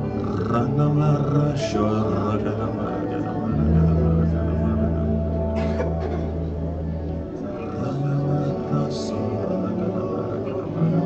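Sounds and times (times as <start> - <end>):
congregation singing: 0.0 - 11.0
sustained keyboard chords: 0.0 - 11.0.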